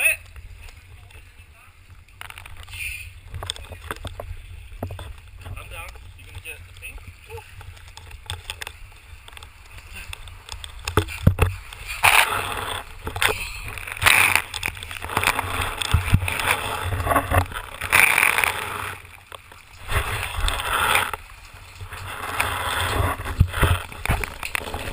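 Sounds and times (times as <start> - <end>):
underwater sloshing and bubbling: 0.0 - 24.9
water splashing: 0.0 - 24.9.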